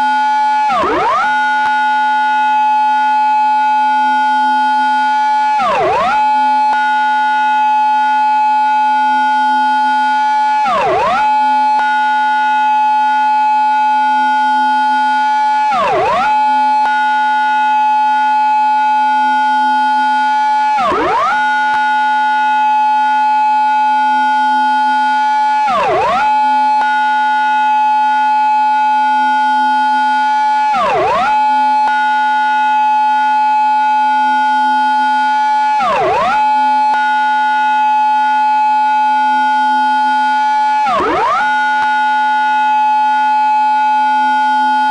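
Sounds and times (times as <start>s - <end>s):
police car siren wailing: 0.0s - 44.9s.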